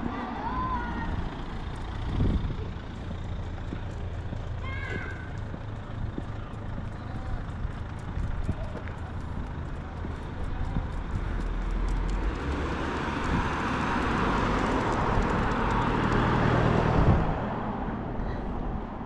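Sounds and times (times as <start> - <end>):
vehicle passing on road: 0.0 - 19.0.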